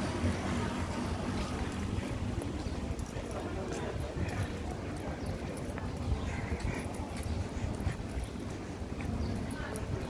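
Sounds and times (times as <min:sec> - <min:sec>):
footsteps on brick paving: 0:00.0 - 0:10.0.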